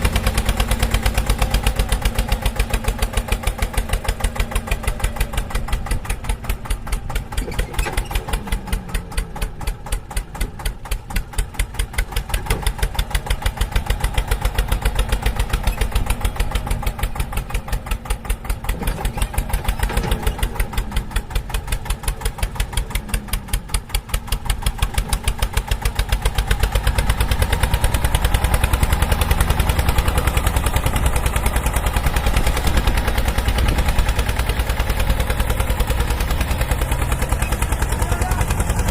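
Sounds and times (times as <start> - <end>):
engine running with rapid chug: 0.0 - 38.9.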